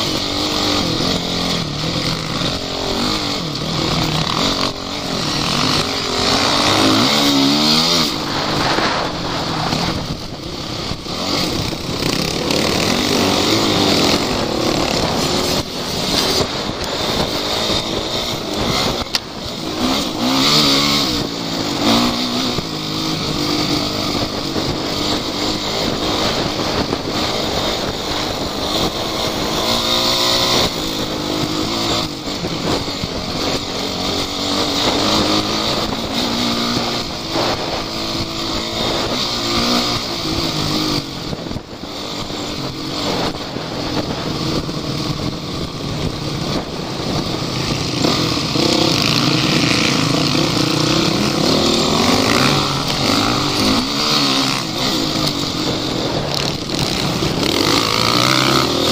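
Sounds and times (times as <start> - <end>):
off-road vehicle engine revving: 0.0 - 58.9.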